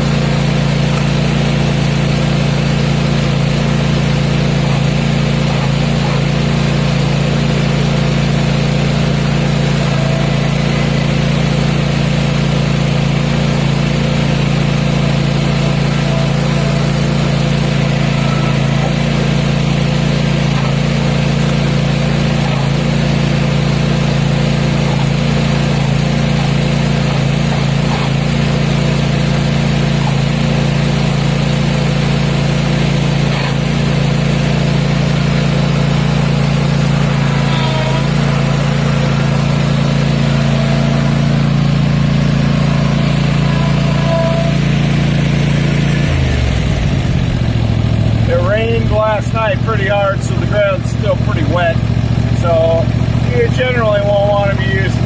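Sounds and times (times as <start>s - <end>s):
mower engine running steadily: 0.0s - 55.0s.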